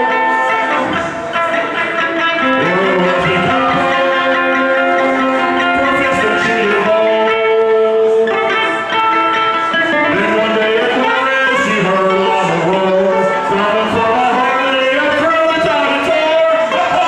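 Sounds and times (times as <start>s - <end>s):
guitar strumming: 0.0s - 17.0s
man singing through microphone: 0.0s - 17.0s.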